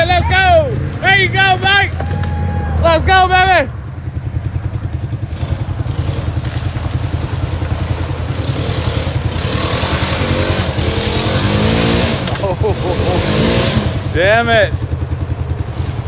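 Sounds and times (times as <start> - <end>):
utility vehicle engine revving: 0.0 - 16.0.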